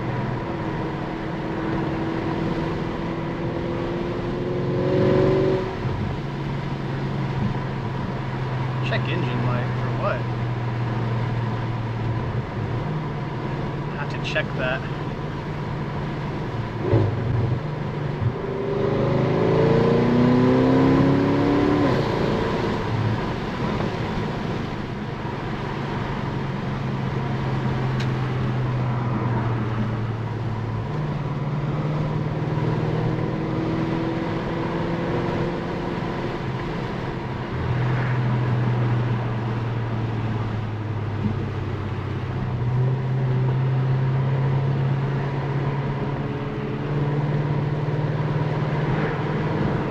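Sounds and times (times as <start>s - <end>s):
car engine and exhaust accelerating: 0.0s - 49.9s.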